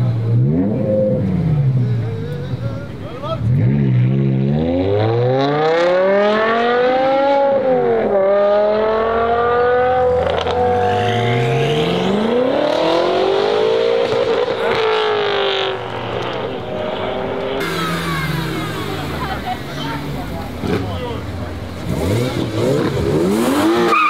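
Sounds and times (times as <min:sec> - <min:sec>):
car engines accelerating hard: 0:00.0 - 0:24.0.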